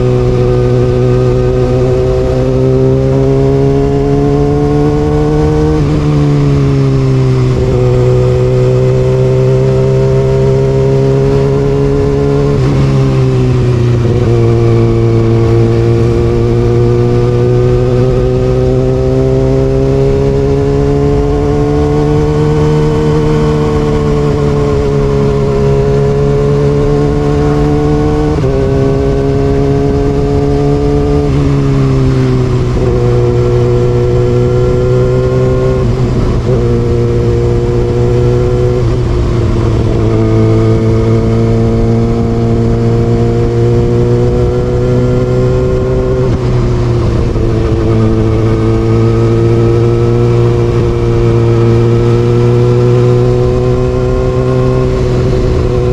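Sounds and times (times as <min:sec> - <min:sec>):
motorcycle engine: 0:00.0 - 0:55.9.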